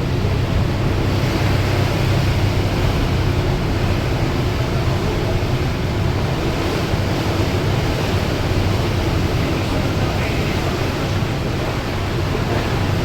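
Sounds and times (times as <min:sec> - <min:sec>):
water wash: 0:00.0 - 0:13.0.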